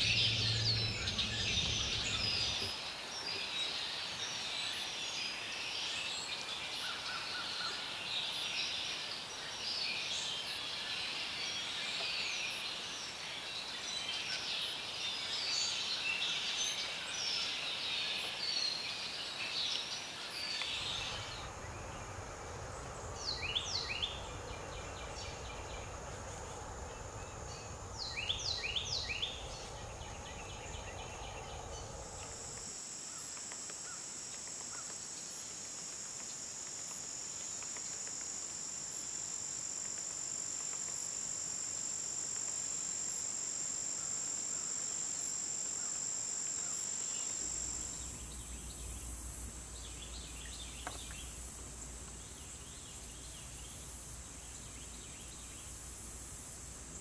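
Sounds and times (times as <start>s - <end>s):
insect chorus droning: 0.0s - 57.0s.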